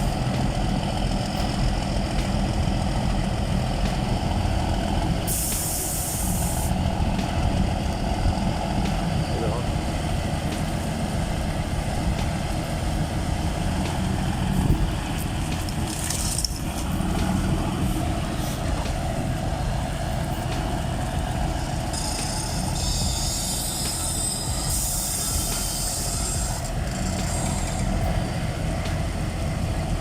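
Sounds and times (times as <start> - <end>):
heavy vehicle rumbling: 0.0 - 30.0
air hiss: 3.6 - 9.6, 10.4 - 29.9.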